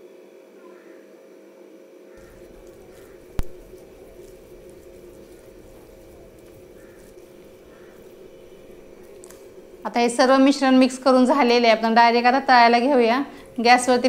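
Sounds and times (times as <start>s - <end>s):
steady background hum: 0.0s - 14.0s
batter squishing in a bowl: 2.2s - 14.0s.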